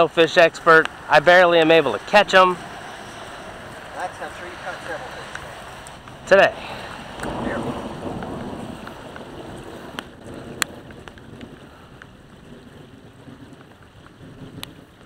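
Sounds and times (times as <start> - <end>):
rain falling on pond: 0.0 - 15.0
wind rumbling on microphone: 0.0 - 15.0.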